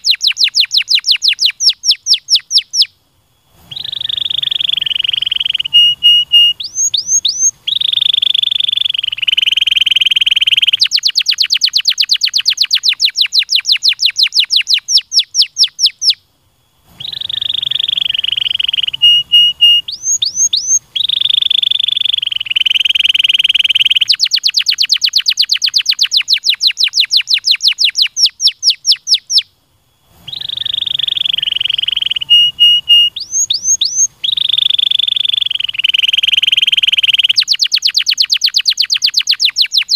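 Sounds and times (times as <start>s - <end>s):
canary singing: 0.0s - 3.0s, 3.6s - 16.2s, 16.9s - 29.5s, 30.1s - 39.9s.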